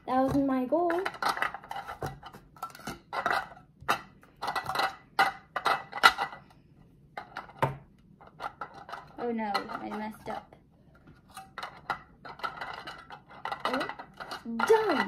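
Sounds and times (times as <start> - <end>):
plastic cups clattering and clicking: 0.0 - 6.6, 7.2 - 15.0.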